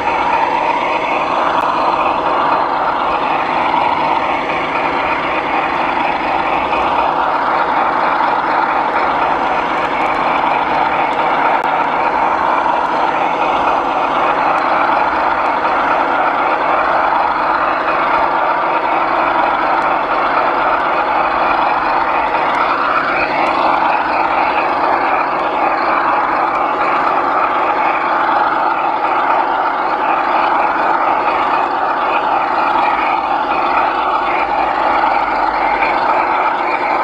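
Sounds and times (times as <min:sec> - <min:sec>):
model locomotive motor whirring: 0:00.0 - 0:37.0.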